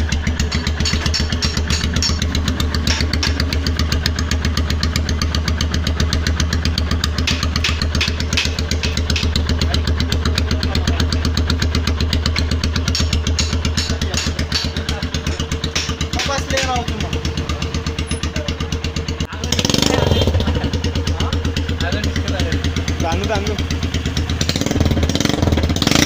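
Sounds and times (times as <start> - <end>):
engine misfire cracks: 0.0 - 26.0
motorcycle engine idling: 0.0 - 26.0.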